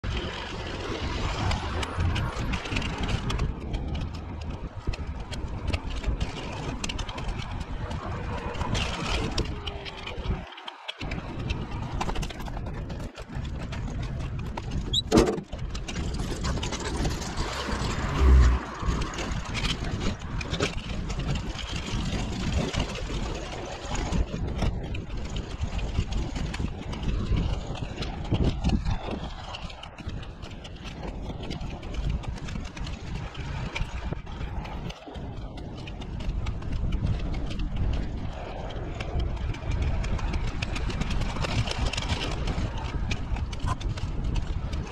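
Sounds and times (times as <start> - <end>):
continuous rushing noise: 0.0 - 44.9.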